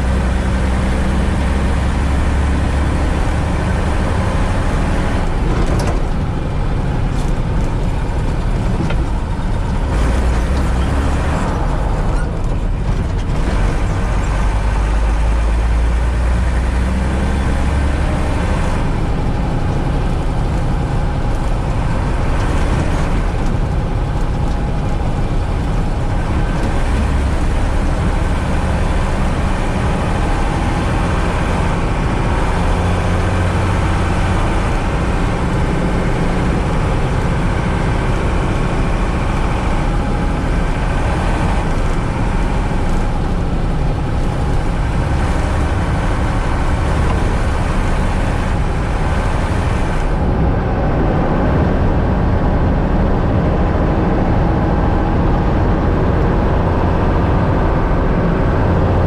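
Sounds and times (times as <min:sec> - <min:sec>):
diesel truck engine droning: 0:00.0 - 0:59.0.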